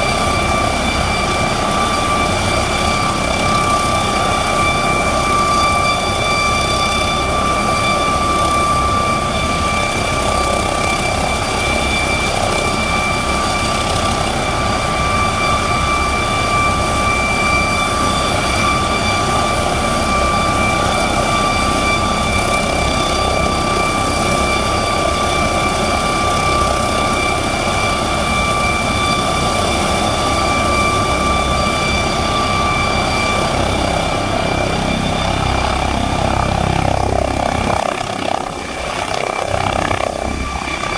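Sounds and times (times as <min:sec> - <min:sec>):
helicopter rotor rushing: 0:00.0 - 0:40.9
helicopter turbine whine: 0:00.0 - 0:40.9.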